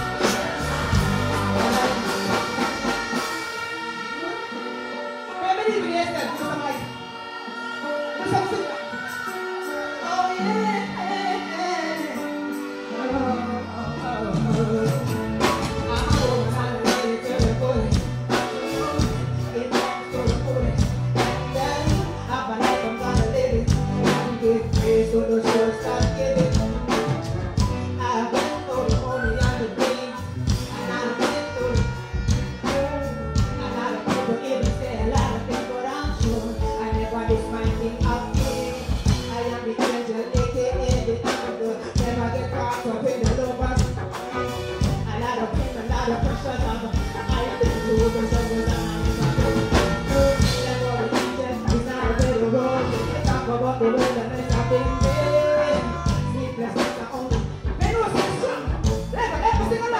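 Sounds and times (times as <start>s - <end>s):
dancehall backing track: 0.0s - 59.9s
woman singing into a microphone: 0.0s - 59.9s.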